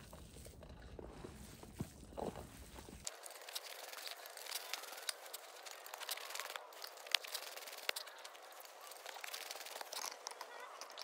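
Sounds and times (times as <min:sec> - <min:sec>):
hands kneading mixture in bowl: 0:00.0 - 0:11.0.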